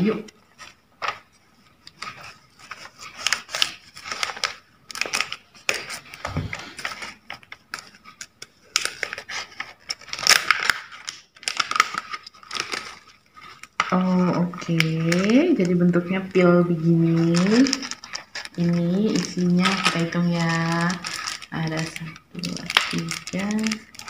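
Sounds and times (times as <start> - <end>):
plastic pouch crinkling: 0.4 - 24.0
scissors cutting plastic: 1.8 - 15.8, 16.9 - 24.0.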